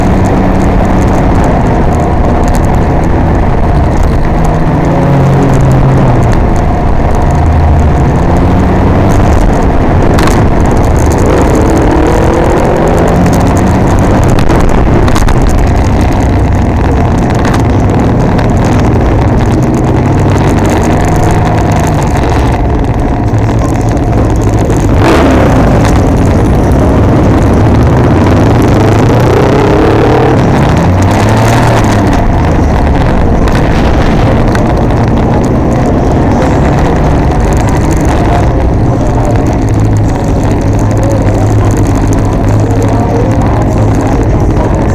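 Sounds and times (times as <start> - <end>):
motorcycle engine revving in traffic: 0.0 - 44.9.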